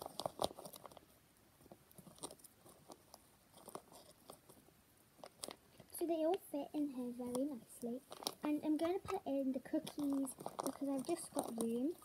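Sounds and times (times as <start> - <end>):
doll clothes rustling: 1.9 - 12.0.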